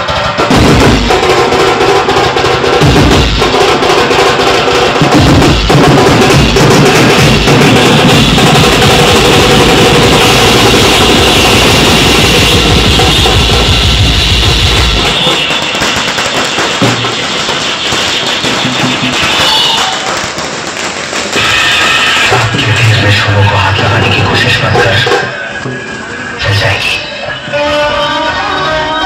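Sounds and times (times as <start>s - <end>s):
party music over loudspeakers: 0.0s - 29.0s.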